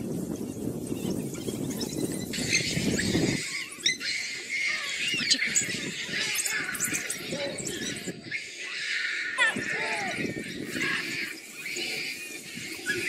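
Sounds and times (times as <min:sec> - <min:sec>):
low wind rumble: 0:00.0 - 0:13.0
wild dogs twittering and squealing: 0:00.1 - 0:13.0.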